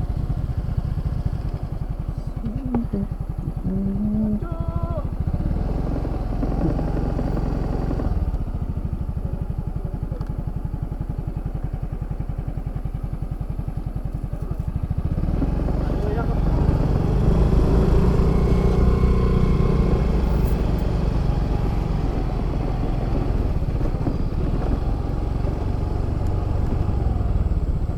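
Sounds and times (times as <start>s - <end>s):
scooter engine running: 0.0s - 27.9s.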